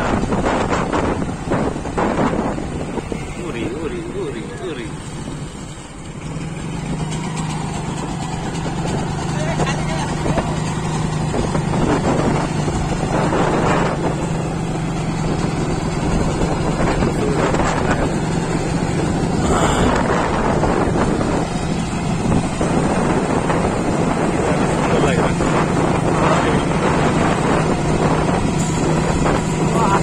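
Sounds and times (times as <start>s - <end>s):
vehicle engine humming: 0.0s - 30.0s
wind buffeting microphone: 0.0s - 30.0s.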